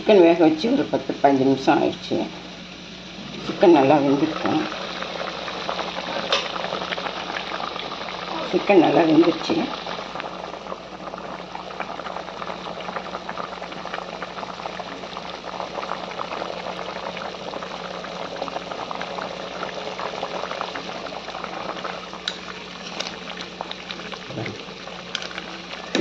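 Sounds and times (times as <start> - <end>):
water bubbling in a pot: 0.0 - 26.0.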